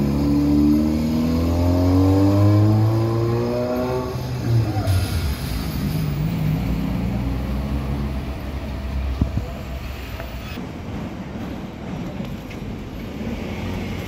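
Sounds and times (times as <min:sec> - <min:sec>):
steady traffic hum: 0:00.0 - 0:14.0.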